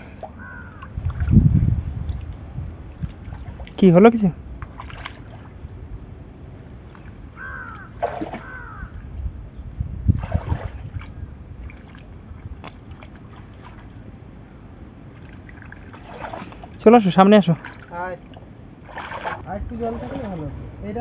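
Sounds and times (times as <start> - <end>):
muddy water sloshing: 0.0 - 21.0
water splashes: 0.0 - 21.0.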